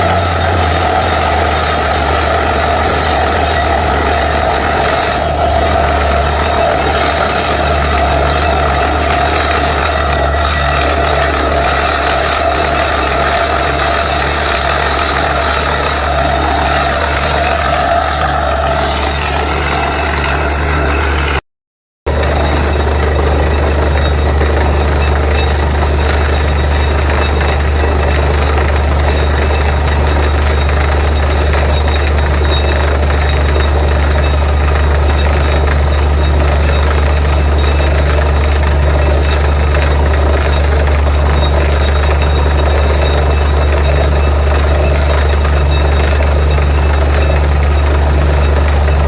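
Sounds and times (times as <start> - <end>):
drilling rig diesel engine drone: 0.0 - 21.4, 22.1 - 49.0.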